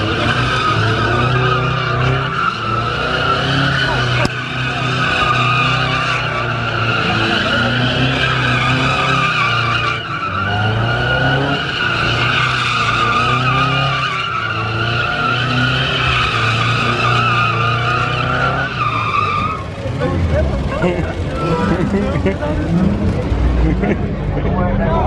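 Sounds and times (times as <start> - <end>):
tyres squealing: 0.0 - 22.9
car engine revving: 0.0 - 25.0.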